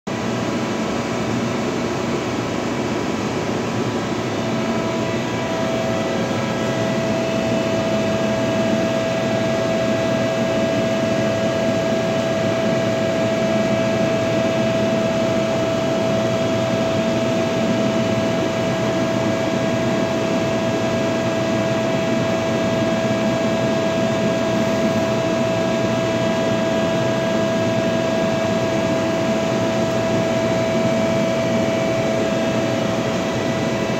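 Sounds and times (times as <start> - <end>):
boring mill mechanical hum: 0.1 - 33.9
machine whines: 1.8 - 33.9.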